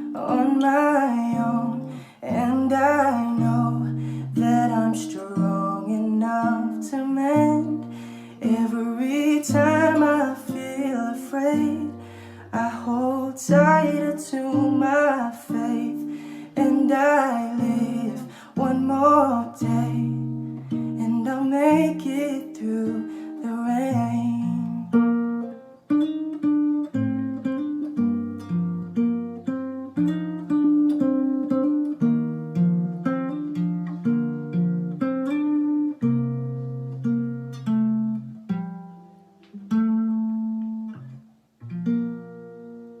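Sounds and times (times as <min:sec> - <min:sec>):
acoustic guitar plucked notes: 0:00.0 - 0:43.0.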